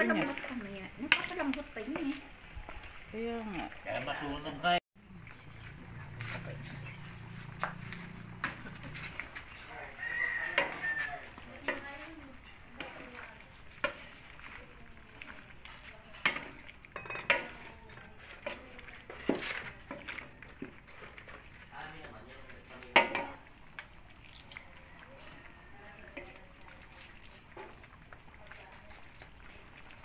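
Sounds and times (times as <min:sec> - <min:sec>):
wooden spatula scraping a wok: 0:00.0 - 0:04.2, 0:05.2 - 0:23.4, 0:25.4 - 0:30.0
pork sizzling: 0:00.0 - 0:30.0.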